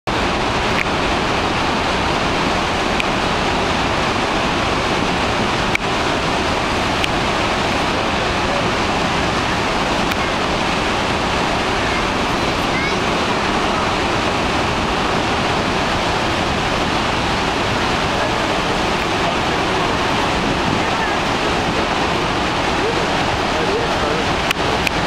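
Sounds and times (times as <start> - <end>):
waterfall roaring: 0.1 - 25.0.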